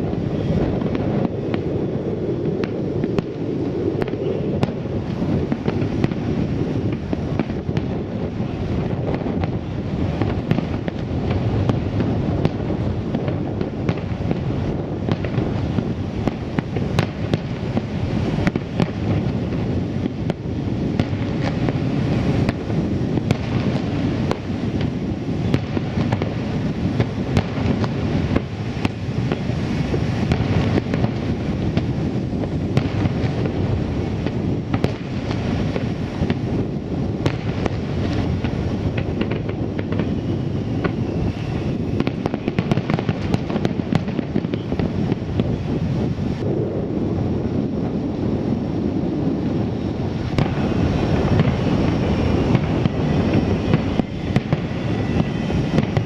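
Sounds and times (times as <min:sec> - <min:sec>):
firework crackles: 0:00.0 - 0:56.0
fireworks booming: 0:00.0 - 0:56.0.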